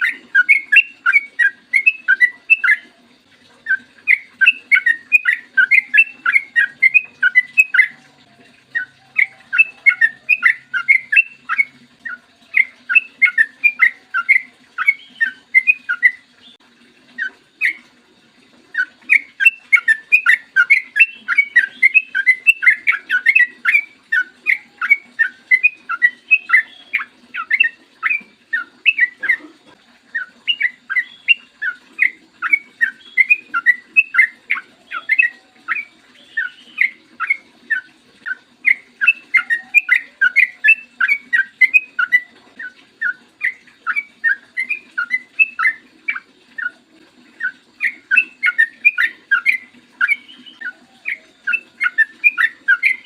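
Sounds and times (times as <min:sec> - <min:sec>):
bird singing bubbly whistles: 0:00.0 - 0:03.0, 0:03.6 - 0:17.9, 0:18.7 - 0:53.0.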